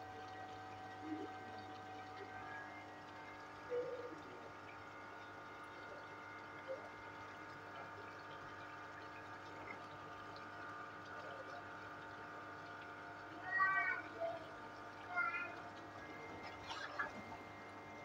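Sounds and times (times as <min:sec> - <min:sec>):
constant hum: 0:00.0 - 0:18.0
gravy bubbling: 0:00.0 - 0:18.0.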